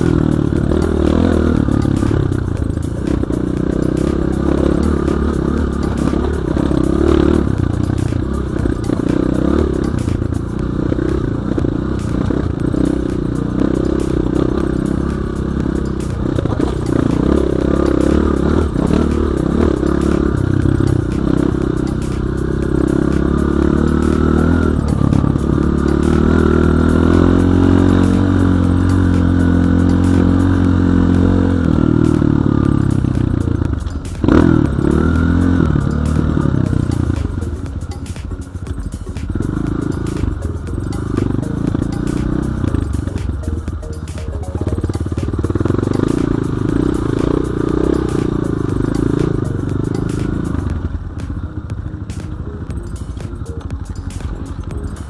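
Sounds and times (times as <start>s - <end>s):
motorcycle engine running under load: 0.0s - 55.0s.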